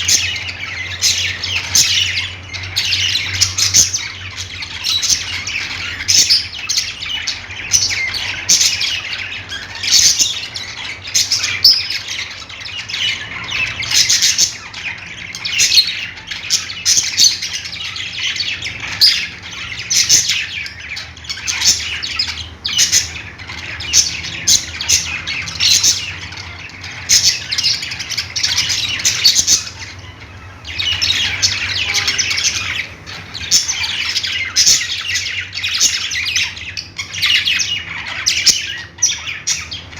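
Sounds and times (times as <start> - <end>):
budgerigar squawks: 0.0 - 39.9
budgerigars chirping: 0.0 - 39.9.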